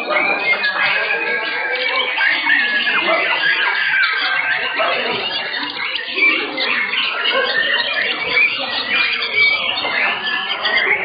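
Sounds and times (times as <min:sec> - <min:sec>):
birds whistling and chirping: 0:00.0 - 0:11.0.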